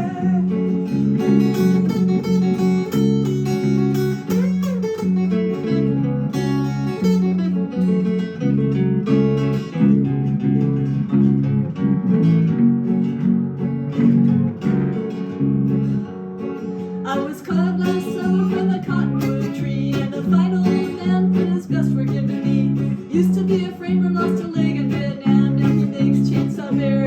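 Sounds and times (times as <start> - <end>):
country guitar melody: 0.0 - 27.0.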